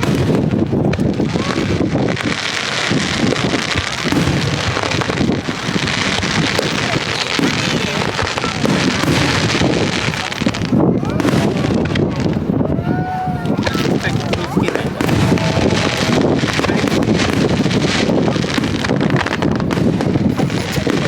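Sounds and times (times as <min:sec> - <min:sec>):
fireworks crackling: 0:00.0 - 0:21.0
wind buffeting microphone: 0:00.0 - 0:21.0.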